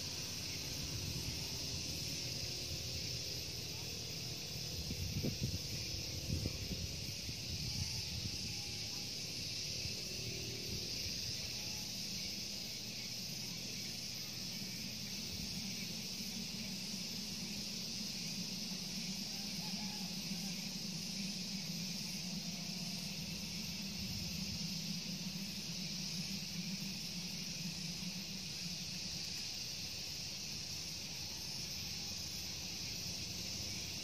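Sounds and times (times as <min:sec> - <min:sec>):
low wind rumble: 0:00.0 - 0:34.0.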